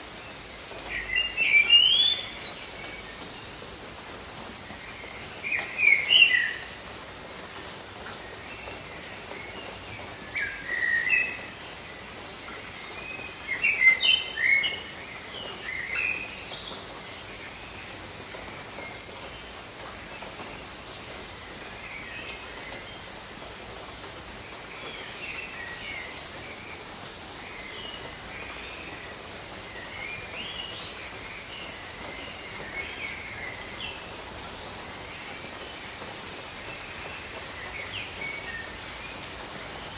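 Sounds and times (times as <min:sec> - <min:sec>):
gentle rain patter: 0:00.0 - 0:39.9.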